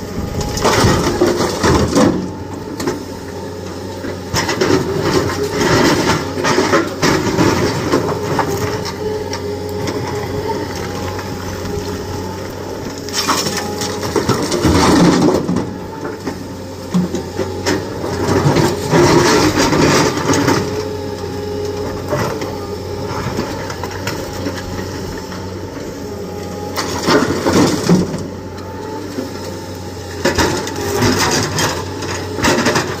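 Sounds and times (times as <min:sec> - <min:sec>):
excavator diesel engines running: 0:00.0 - 0:33.0.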